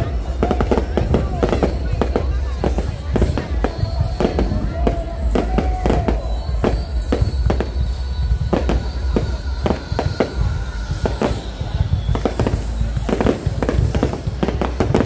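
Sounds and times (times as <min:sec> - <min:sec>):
fireworks bangs: 0:00.0 - 0:15.0
low rumble of fireworks: 0:00.0 - 0:15.0.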